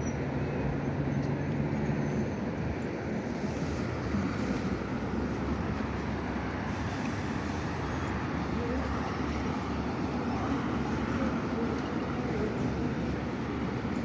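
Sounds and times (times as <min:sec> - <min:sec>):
road vehicle engine and road noise: 0:00.0 - 0:14.0.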